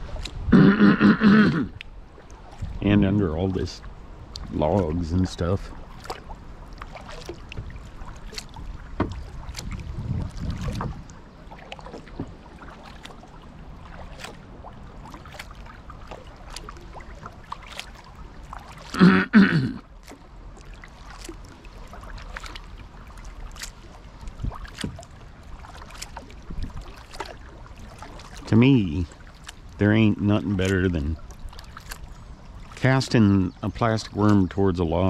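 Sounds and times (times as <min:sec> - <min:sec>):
light clicks and knocks from hull: 0:00.0 - 0:00.4, 0:01.7 - 0:19.0, 0:19.8 - 0:34.9.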